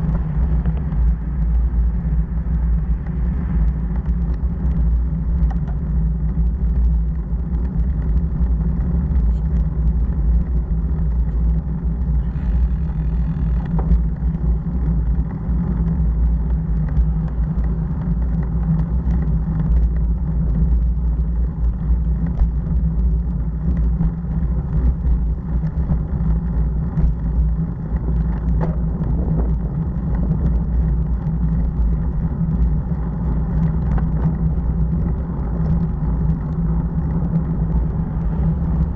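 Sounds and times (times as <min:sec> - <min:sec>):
motorcycle engine drone: 0:00.0 - 0:38.9
wind rumble on microphone: 0:00.0 - 0:38.9.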